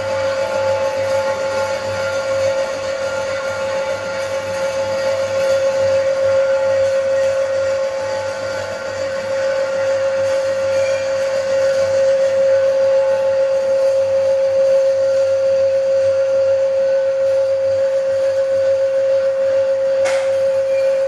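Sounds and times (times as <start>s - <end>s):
metal lathe whining: 0.0s - 21.0s.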